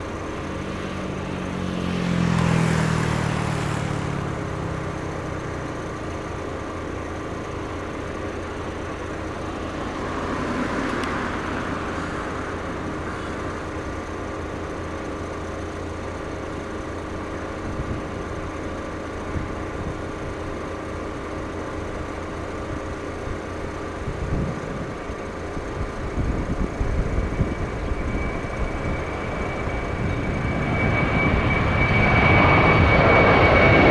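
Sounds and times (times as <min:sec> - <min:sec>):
vehicles passing close by: 0:00.0 - 0:33.9.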